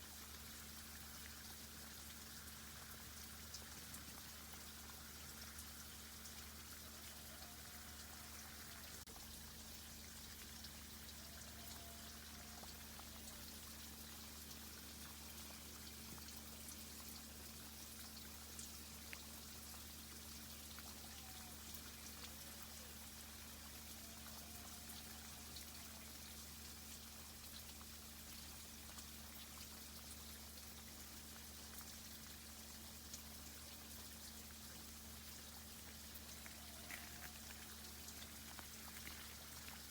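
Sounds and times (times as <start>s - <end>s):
water hissing and dripping: 0.0s - 39.9s.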